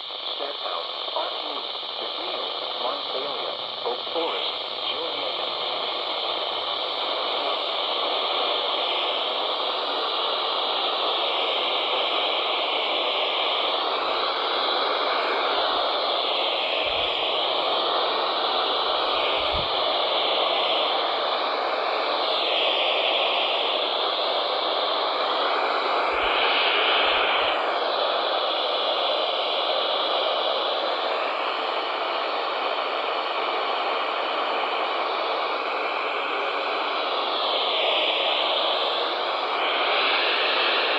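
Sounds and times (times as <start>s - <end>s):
radio static hiss: 0.0s - 40.9s.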